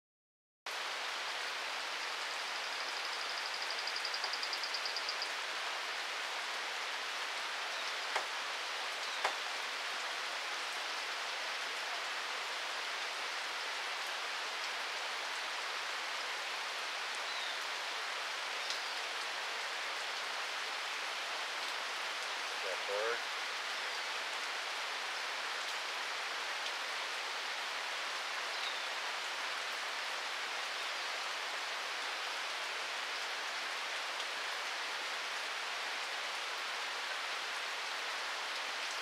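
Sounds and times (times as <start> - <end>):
light rain hissing: 0.7 - 39.0.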